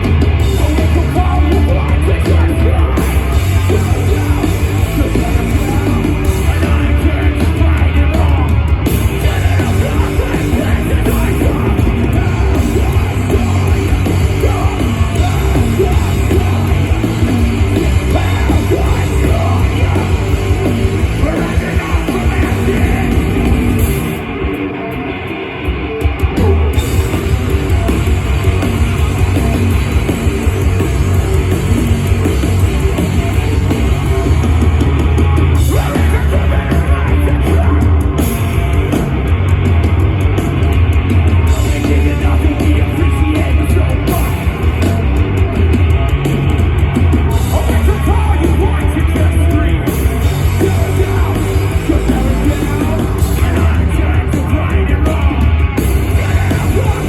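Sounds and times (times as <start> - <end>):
bass guitar: 0.0 - 57.0
distorted electric guitars: 0.0 - 57.0
drums: 0.0 - 57.0
yelled vocals: 0.0 - 57.0.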